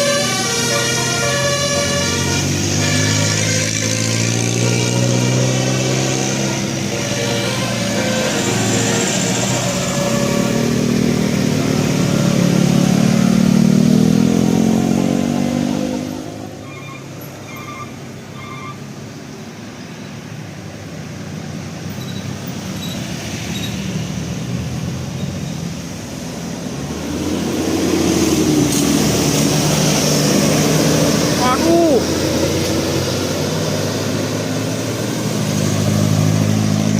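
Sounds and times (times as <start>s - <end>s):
vehicle engine passing: 0.0s - 18.4s, 21.2s - 36.9s
vehicle approaching: 0.0s - 36.9s.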